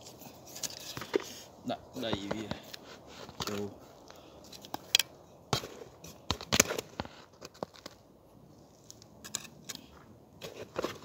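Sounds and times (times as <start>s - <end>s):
soil crunching and crackling: 0.0s - 11.0s.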